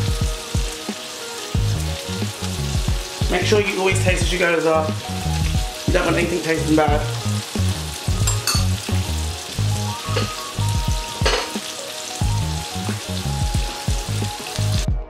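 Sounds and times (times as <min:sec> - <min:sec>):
food sizzling in hot oil: 0:00.0 - 0:14.9
background music: 0:00.0 - 0:15.0.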